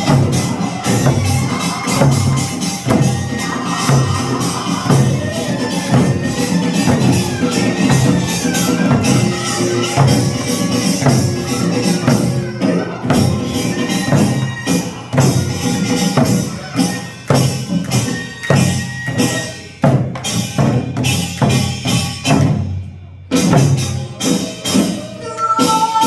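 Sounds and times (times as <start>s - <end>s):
bright metallic percussion: 0.0s - 22.7s, 23.3s - 26.0s.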